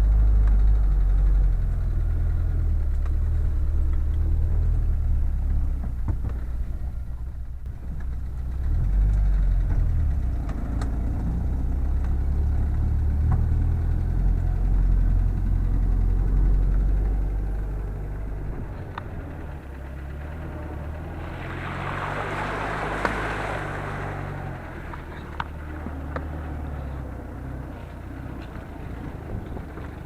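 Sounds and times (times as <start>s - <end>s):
boat motor running: 0.0s - 30.0s.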